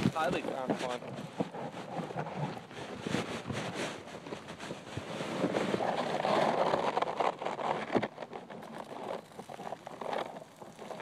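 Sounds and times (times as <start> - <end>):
cloth rustling on phone microphone: 0.0 - 11.0.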